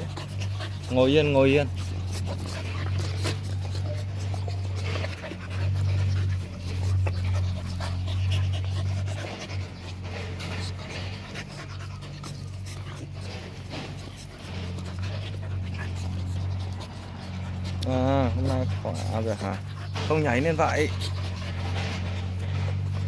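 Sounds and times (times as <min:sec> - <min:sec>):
puppies panting and scuffling: 0:00.0 - 0:23.0
steady low hum: 0:00.0 - 0:23.0.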